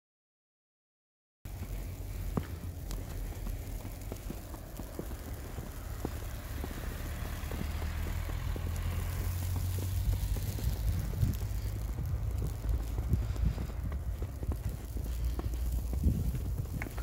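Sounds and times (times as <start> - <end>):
footsteps in snow: 1.5 - 17.0
low steady rumble: 1.5 - 17.0.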